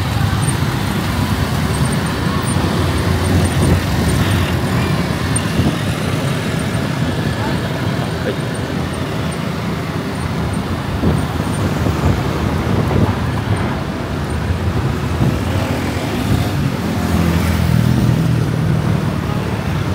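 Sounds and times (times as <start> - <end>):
nearer engine hum: 0.0 - 19.9
road traffic: 0.0 - 19.9.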